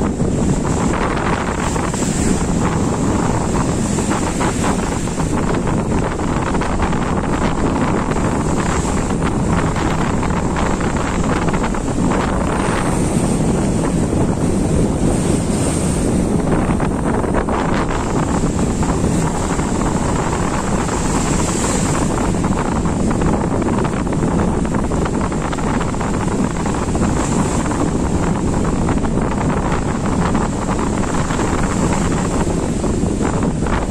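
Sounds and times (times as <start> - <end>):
sea waves rushing: 0.0 - 33.9
wind buffeting microphone: 0.0 - 33.9.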